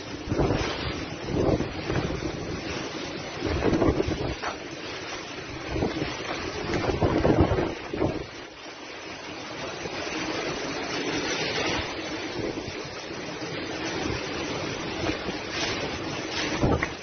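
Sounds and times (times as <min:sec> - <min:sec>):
heavy driving rain: 0:00.0 - 0:17.0
strong wind: 0:00.0 - 0:17.0.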